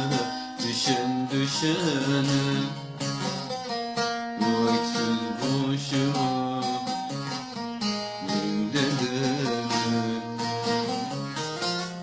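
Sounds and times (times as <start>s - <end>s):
plucked string instruments melody: 0.0s - 12.0s
steady accompaniment: 0.0s - 12.0s.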